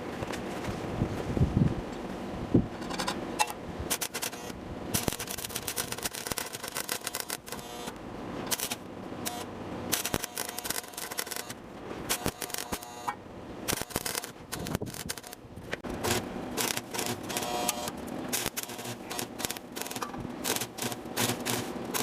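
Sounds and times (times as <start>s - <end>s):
welding arc crackling and sizzling: 3.9s - 22.0s.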